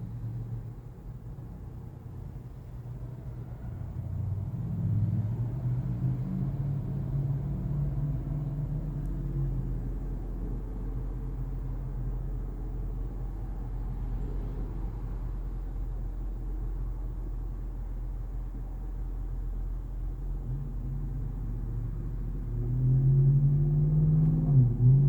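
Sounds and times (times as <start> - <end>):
car interior rumble: 0.0 - 25.0.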